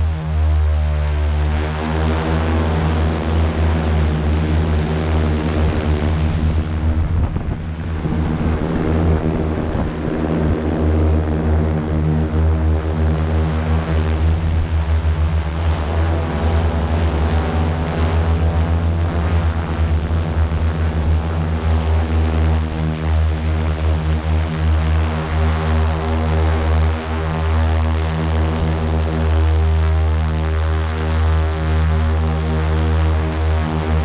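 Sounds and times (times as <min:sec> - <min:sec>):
drone motors humming: 0:00.0 - 0:34.0.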